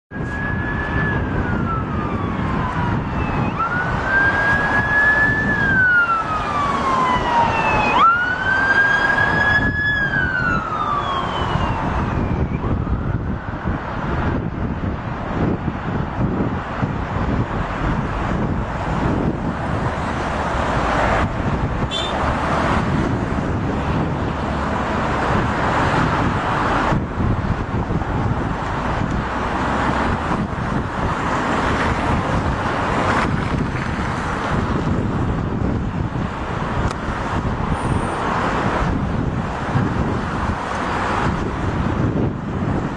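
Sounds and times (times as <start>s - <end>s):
emergency vehicle siren wailing: 0.1s - 42.9s.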